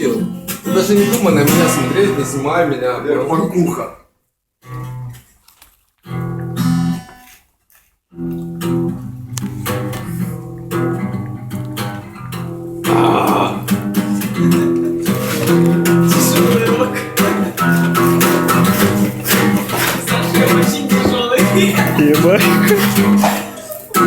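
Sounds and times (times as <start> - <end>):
guitar plucked notes and chords: 0.0 - 3.9, 8.2 - 24.0.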